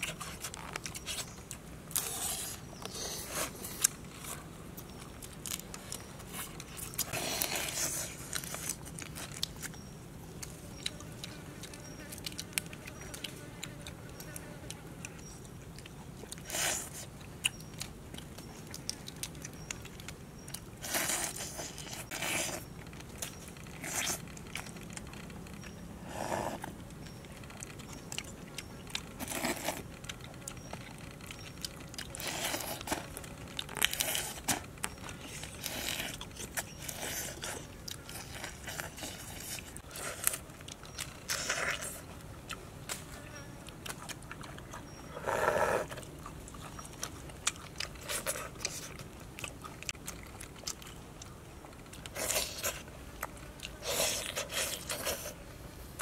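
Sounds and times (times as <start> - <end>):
crunching through shrimp shell: 0.0 - 25.8, 26.6 - 45.2, 45.8 - 55.4.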